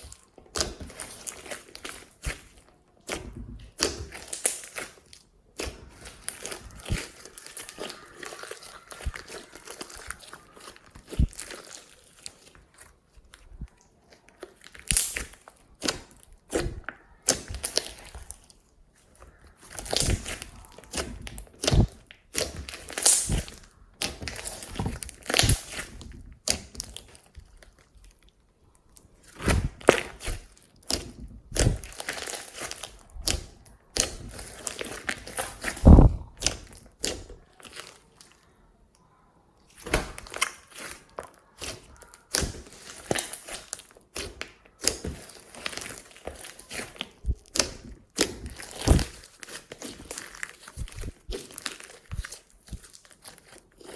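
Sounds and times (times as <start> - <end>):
slime squishing and popping: 0.0 - 28.3, 28.9 - 38.6, 39.6 - 53.9.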